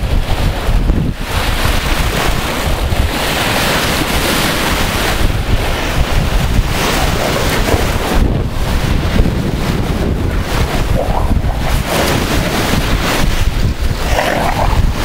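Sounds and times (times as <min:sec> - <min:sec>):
wind buffeting microphone: 0:00.0 - 0:15.0
surf breaking on beach: 0:00.1 - 0:15.0.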